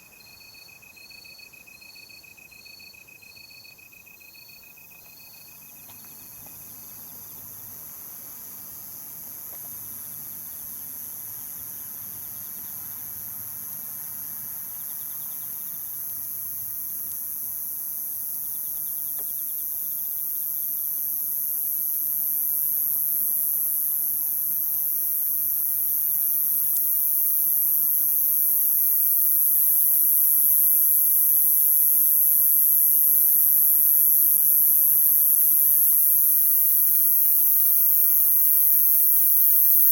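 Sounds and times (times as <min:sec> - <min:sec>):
faint pulsed insect chirps: 0:00.0 - 0:13.3, 0:14.2 - 0:39.9
crickets trilling: 0:00.0 - 0:13.4, 0:14.0 - 0:39.9.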